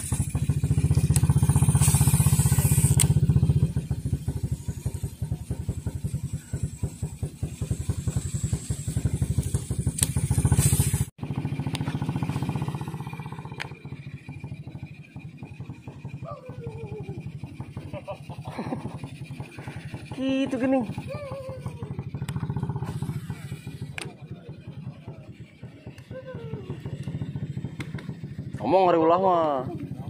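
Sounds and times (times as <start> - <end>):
small boat engine puttering: 0.0 - 30.0.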